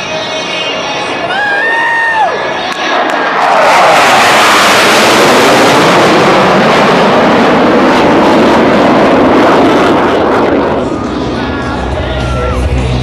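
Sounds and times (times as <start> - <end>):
jet roar passing overhead: 0.0 - 13.0.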